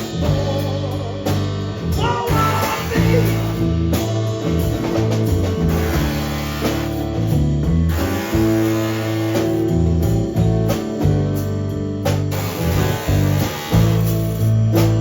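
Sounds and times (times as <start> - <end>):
instrumental blues band music: 0.0 - 15.0.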